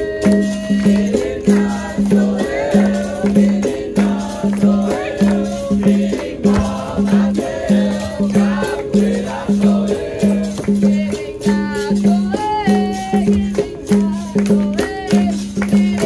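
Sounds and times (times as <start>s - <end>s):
shaken rattle: 0.0s - 16.0s
voices singing: 0.0s - 16.0s.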